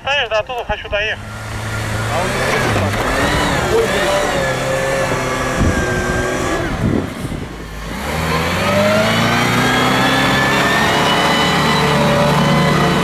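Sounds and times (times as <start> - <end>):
car engine revving: 0.6 - 13.0.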